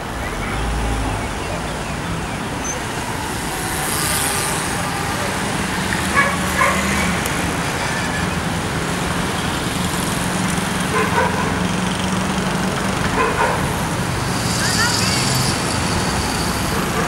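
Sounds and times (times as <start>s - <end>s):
city street hum: 0.0s - 17.0s.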